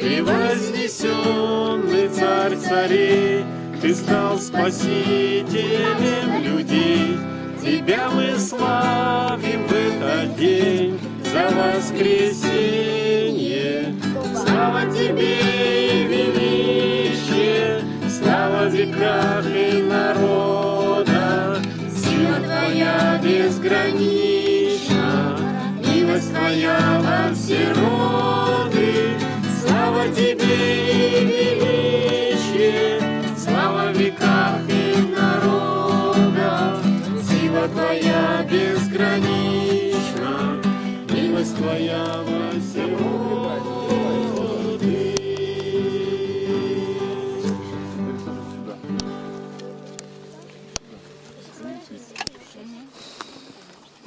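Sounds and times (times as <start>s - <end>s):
group singing: 0.0s - 48.2s
acoustic guitar strumming: 0.0s - 51.2s.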